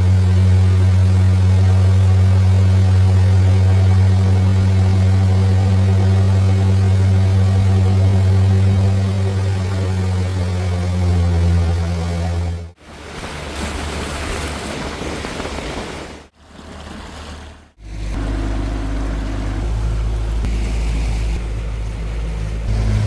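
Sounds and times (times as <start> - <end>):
motorboat engine droning: 0.0 - 15.5, 16.3 - 23.0.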